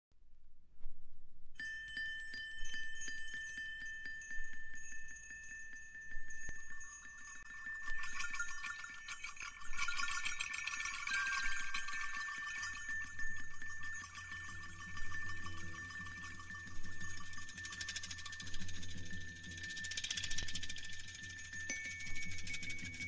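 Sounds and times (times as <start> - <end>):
chime-like tinkling: 1.6 - 23.0.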